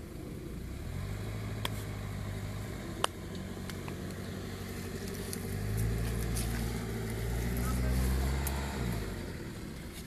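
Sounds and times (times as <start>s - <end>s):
vehicle engine running at low revs: 0.0s - 10.0s.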